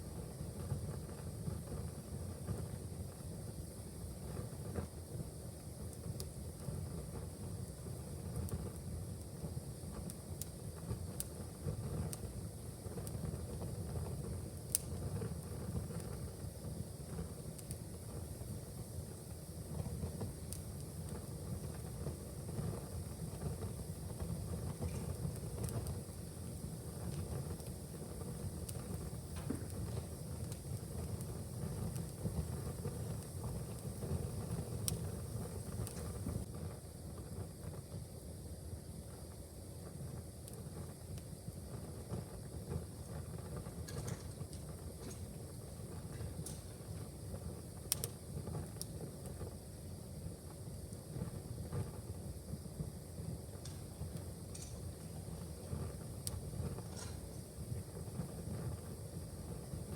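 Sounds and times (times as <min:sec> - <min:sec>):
fire crackling and popping: 0:00.0 - 0:59.9
wood fire flames rumbling: 0:00.0 - 0:59.9.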